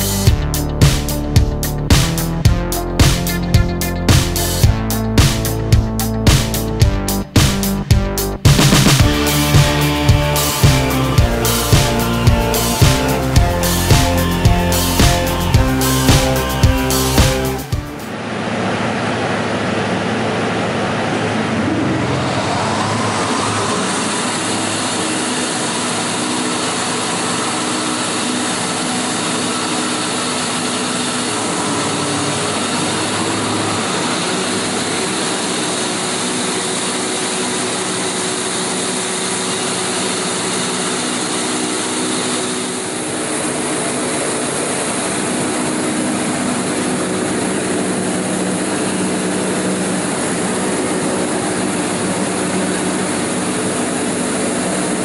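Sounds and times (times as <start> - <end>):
saw machine humming: 0.0 - 55.0.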